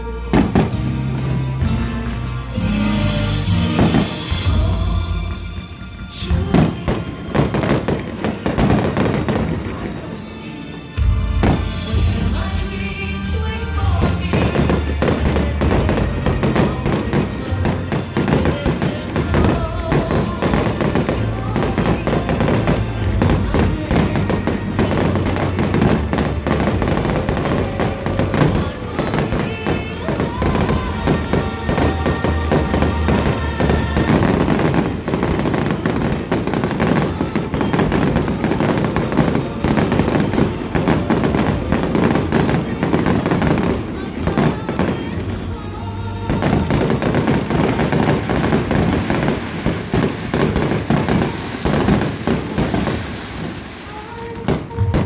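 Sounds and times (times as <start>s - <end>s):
fireworks bursting: 0.0s - 10.8s, 11.4s - 55.0s
music: 0.0s - 55.0s.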